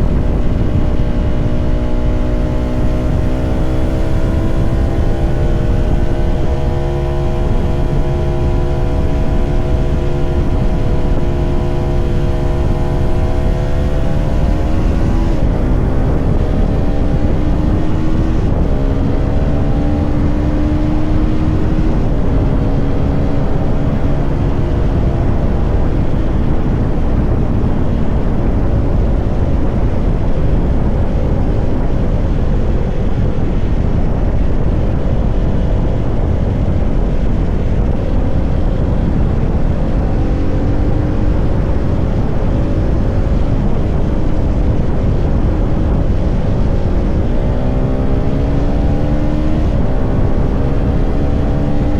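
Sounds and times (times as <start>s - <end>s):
motorcycle engine running: 0.0s - 51.9s
steady low rushing noise: 0.0s - 51.9s.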